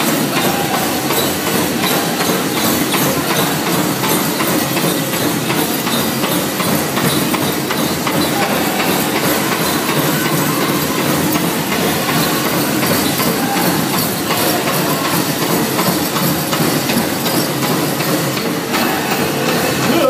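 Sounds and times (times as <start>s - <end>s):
bells rattling and jingling: 0.0s - 20.0s.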